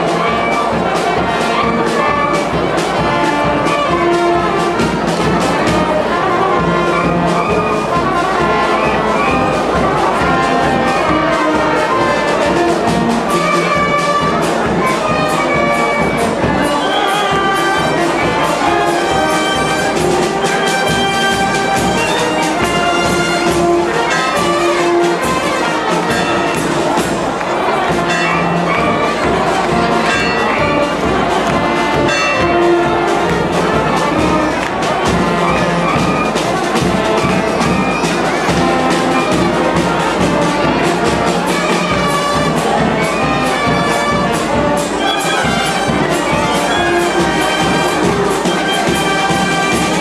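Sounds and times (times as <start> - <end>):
brass band playing: 0.0 - 50.0.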